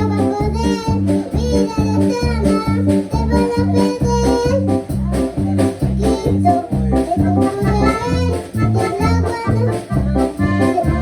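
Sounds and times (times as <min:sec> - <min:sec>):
upbeat gospel music: 0:00.0 - 0:11.0.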